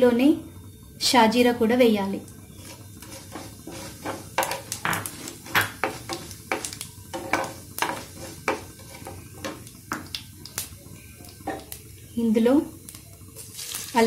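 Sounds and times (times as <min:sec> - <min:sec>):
oil sizzling: 0:00.2 - 0:14.0
spices popping in hot oil: 0:01.3 - 0:14.0.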